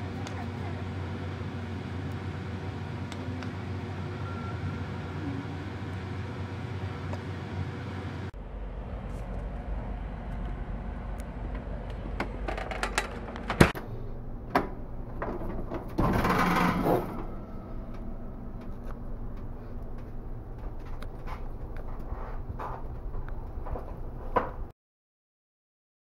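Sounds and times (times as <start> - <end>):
kitchen hum: 0.0 - 24.7.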